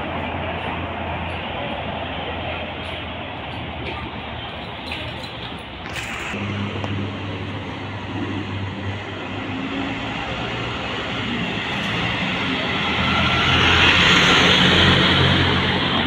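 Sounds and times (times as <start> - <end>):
bus engines running: 0.0 - 16.0.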